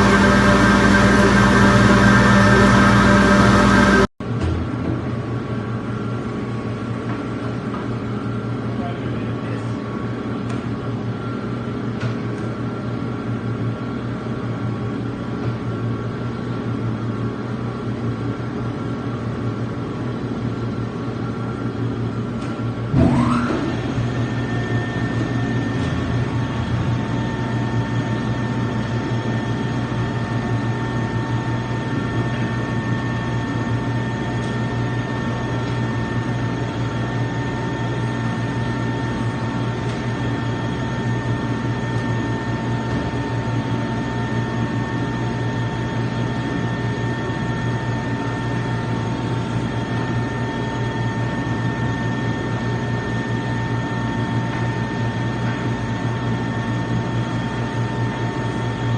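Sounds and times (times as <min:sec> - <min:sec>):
meat grinder whining hum: 0:00.0 - 0:04.8, 0:09.9 - 0:58.9.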